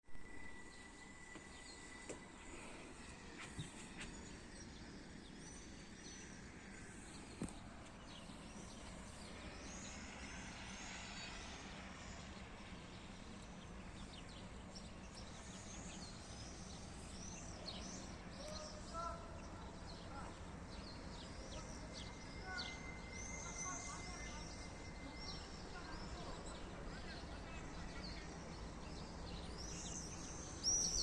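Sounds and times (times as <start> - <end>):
outdoor background hiss: 0.1 - 31.0.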